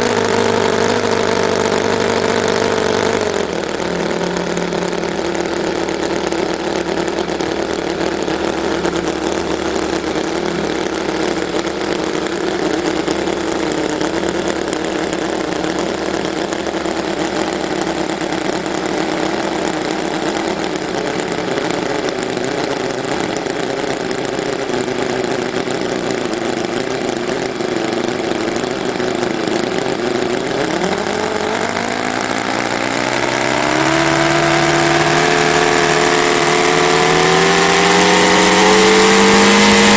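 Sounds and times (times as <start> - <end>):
model radial engine running: 0.0 - 39.9.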